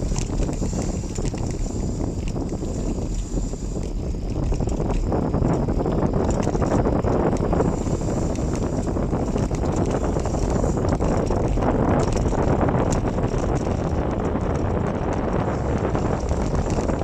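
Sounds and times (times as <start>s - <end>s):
bicycle rolling on wet road: 0.0s - 17.0s
bike rattles and clicks: 0.0s - 17.0s
wind buffeting microphone: 0.0s - 17.0s.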